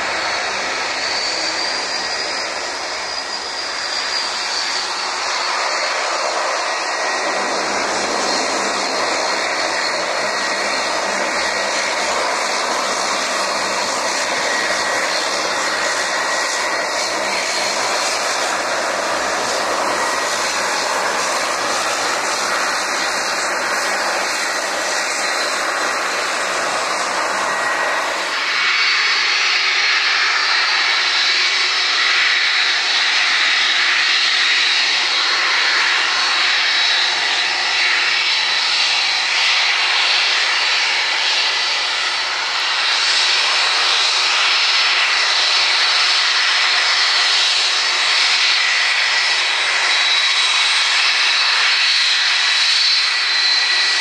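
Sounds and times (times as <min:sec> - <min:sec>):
jet engines roaring: 0:00.0 - 0:54.0
steady high whine: 0:00.0 - 0:54.0.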